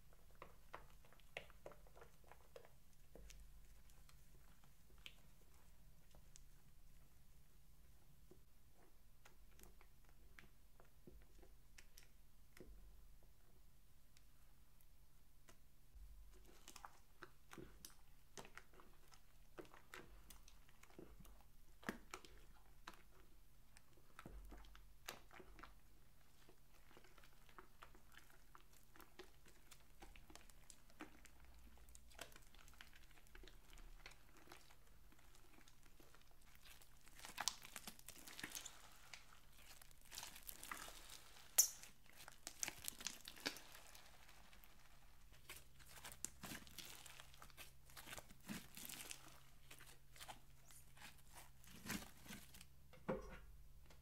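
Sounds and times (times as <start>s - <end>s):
hands kneading wet slime: 0.0s - 54.0s.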